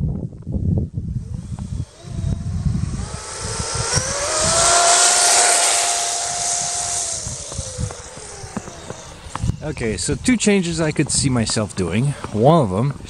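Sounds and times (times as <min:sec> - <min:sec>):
electric motor whining: 0:00.3 - 0:12.5
track hissing over snow: 0:01.2 - 0:12.4.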